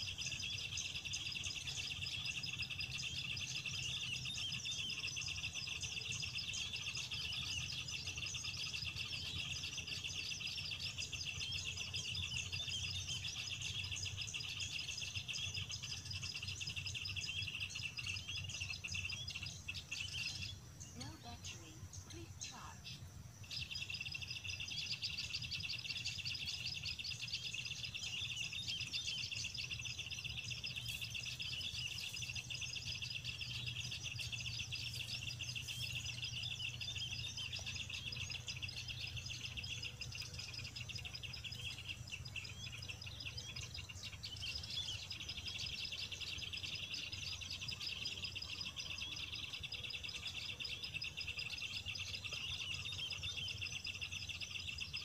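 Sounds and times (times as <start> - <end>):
small birds chirping rapidly: 0.0 - 55.0.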